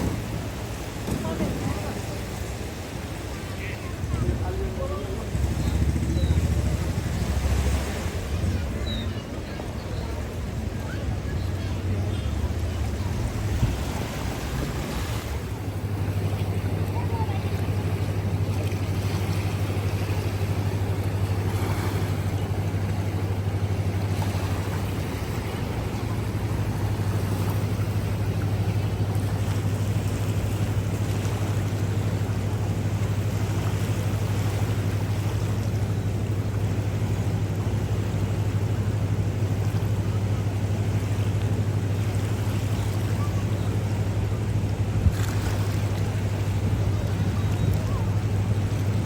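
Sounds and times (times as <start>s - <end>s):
river rushing roar: 0.0s - 49.0s.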